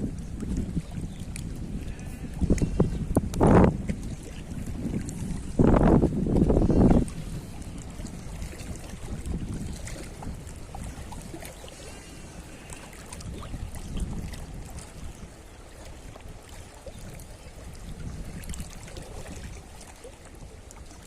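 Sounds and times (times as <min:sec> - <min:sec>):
faint water wash: 0:00.0 - 0:21.0
wind gusting on microphone: 0:00.0 - 0:21.0.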